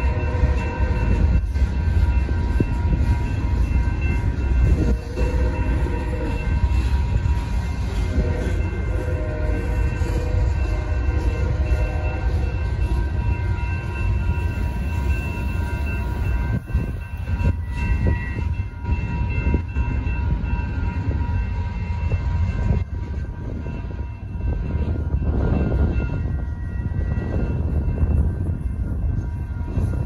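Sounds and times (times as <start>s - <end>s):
crossing signal bells ringing: 0.0s - 30.0s
train wheels rumbling on rails: 0.0s - 30.0s.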